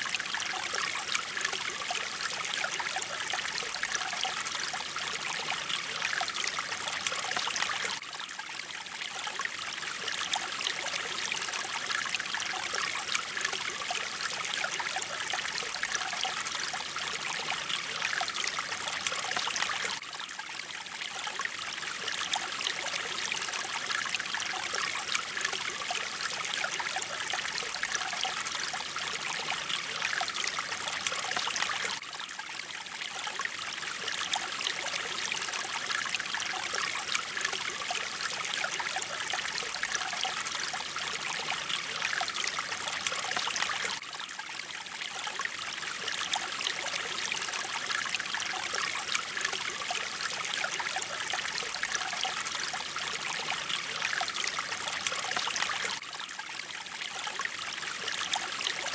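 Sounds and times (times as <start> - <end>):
stream flowing: 0.0 - 58.9.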